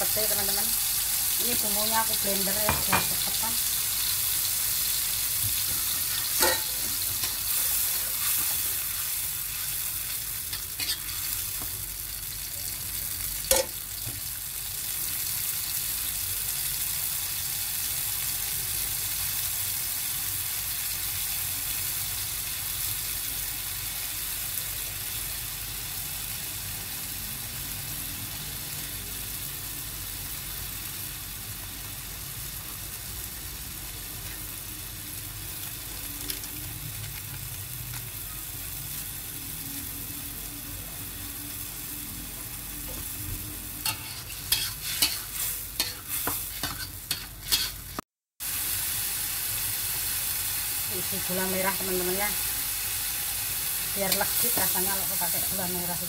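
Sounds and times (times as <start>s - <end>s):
spice paste sizzling in a wok: 0.0s - 56.0s.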